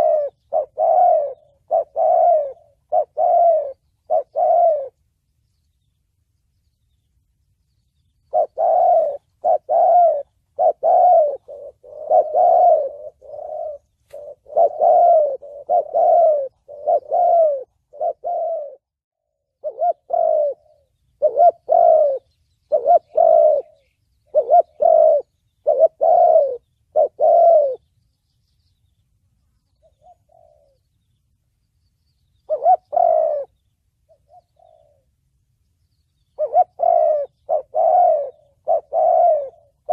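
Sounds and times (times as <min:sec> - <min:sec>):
dove cooing: 0:00.0 - 0:05.0, 0:08.2 - 0:27.9, 0:29.7 - 0:31.2, 0:32.3 - 0:35.2, 0:36.2 - 0:39.9.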